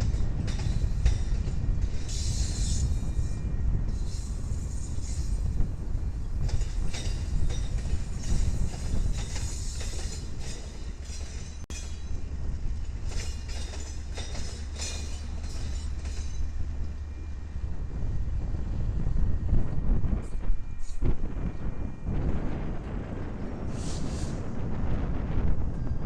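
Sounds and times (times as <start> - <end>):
train passing on rails: 0.0 - 26.0.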